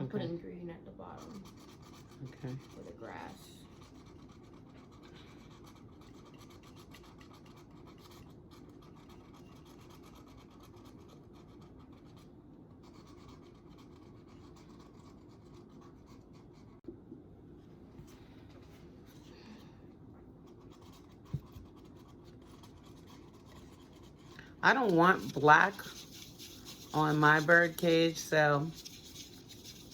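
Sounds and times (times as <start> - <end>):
scratching of colouring on surface: 1.2 - 16.8, 20.4 - 29.9.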